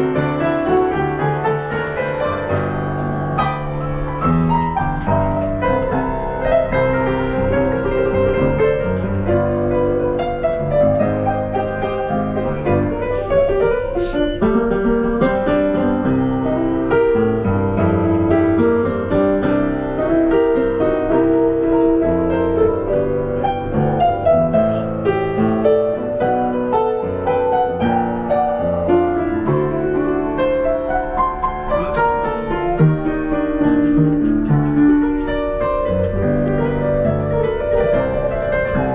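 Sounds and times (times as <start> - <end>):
piano melody over chords: 0.0 - 38.9.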